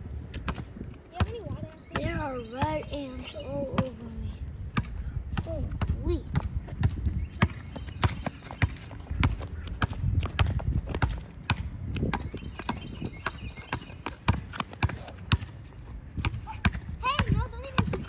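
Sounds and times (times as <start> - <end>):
basketball bouncing on hard surface: 0.3 - 4.0, 4.7 - 18.0.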